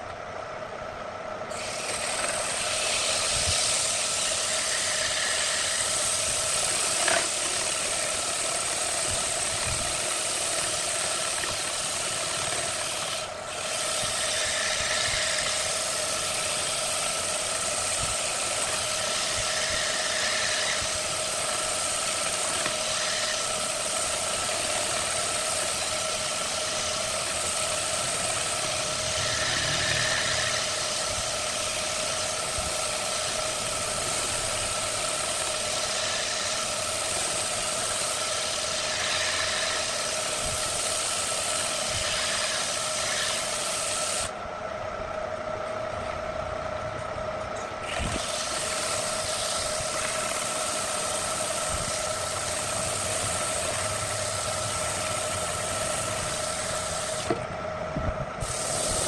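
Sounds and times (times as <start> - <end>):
lathe motor whining: 1.4 - 59.0
sandpaper hissing on wood: 1.5 - 44.3, 47.9 - 57.4, 58.4 - 59.0.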